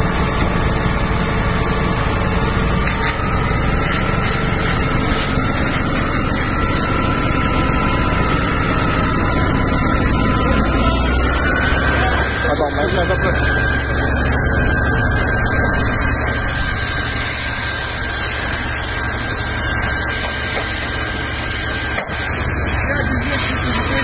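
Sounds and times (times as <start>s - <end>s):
faint rising whine: 0.0s - 24.0s
fire engine pump motor running: 0.0s - 24.0s.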